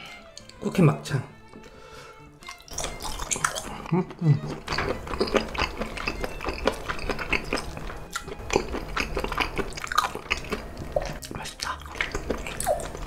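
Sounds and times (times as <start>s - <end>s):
wet chewing clicks and smacks: 2.4s - 13.0s.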